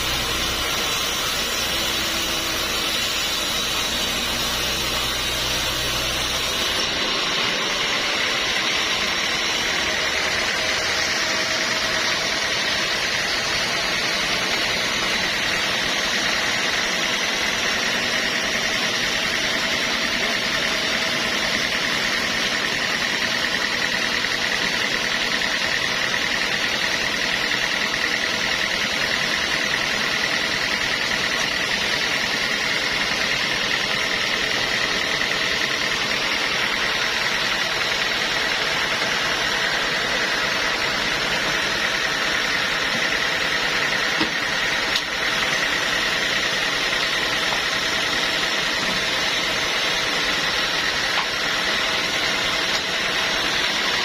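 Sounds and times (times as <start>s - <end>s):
sawmill machinery whining: 0.0s - 54.0s.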